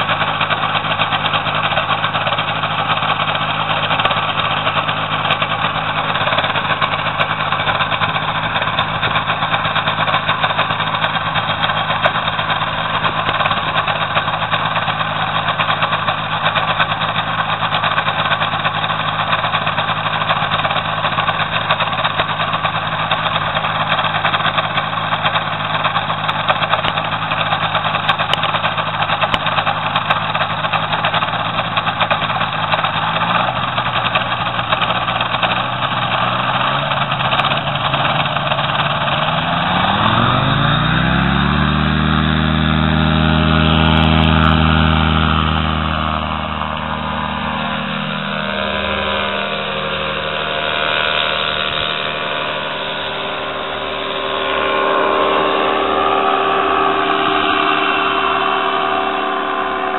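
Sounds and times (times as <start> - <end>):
paraglider engine and propeller: 0.0 - 59.9.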